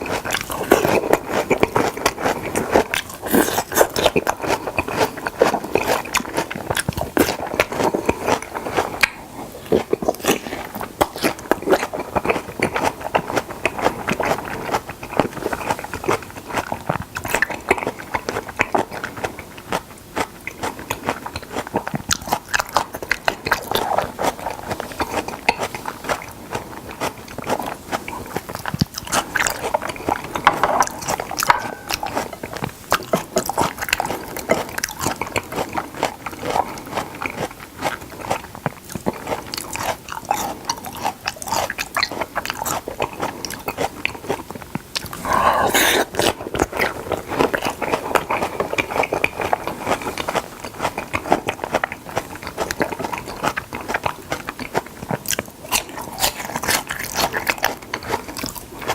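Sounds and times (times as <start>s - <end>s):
wet biting and chewing: 0.0s - 58.9s.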